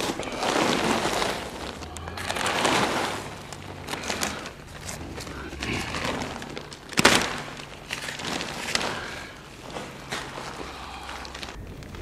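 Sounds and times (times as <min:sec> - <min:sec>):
plastic crinkling and scraping: 0:00.0 - 0:12.0.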